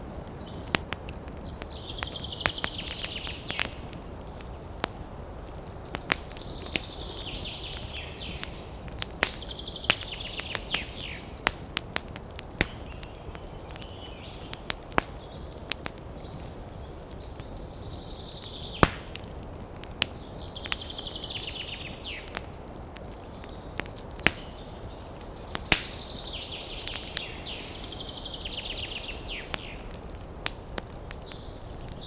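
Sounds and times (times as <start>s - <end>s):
campfire crackling and popping: 0.0s - 32.0s
low wind rustle: 0.0s - 32.0s.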